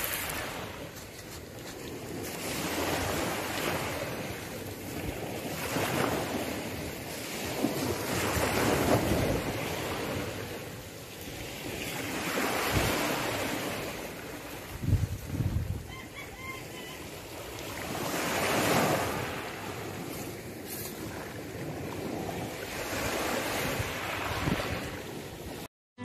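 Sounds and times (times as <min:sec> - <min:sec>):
waves washing on pebble beach: 0:00.0 - 0:15.5, 0:17.0 - 0:25.6
wind on microphone: 0:01.9 - 0:16.9, 0:17.7 - 0:25.7.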